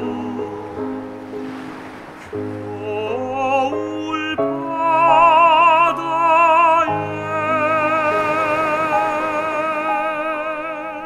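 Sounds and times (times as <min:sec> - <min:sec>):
tenor singing classical song: 0:00.0 - 0:01.4, 0:02.0 - 0:11.0.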